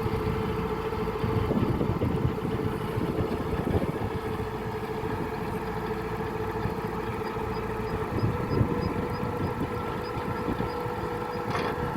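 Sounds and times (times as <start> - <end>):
combine harvester engine running: 0.0 - 11.9.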